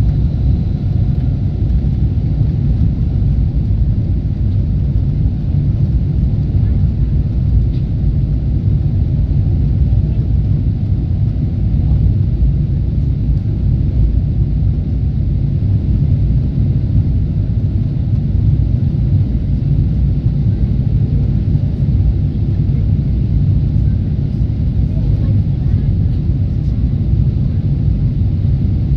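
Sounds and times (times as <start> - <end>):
jet engines rumbling: 0.0 - 28.9.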